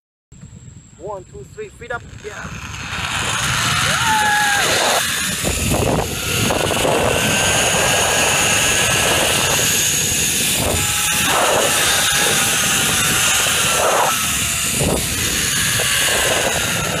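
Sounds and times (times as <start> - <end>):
wind noise on microphone: 0.4 - 17.0
zipline pulleys whirring on cable: 1.8 - 17.0.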